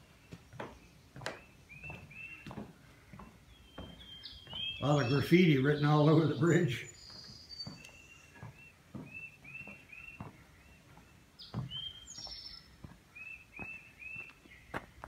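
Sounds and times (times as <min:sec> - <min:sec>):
footsteps on gravel: 0:00.0 - 0:15.0
small bird chirping: 0:00.0 - 0:15.0.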